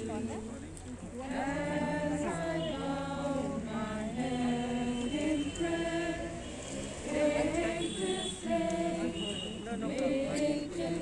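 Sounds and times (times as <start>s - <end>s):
group singing a slow hymn: 1.1s - 11.0s.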